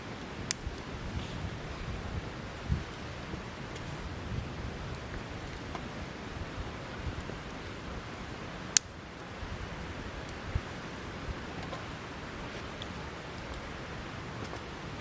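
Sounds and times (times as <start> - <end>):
campfire hissing: 0.0 - 15.0
small fire crackles: 0.0 - 15.0.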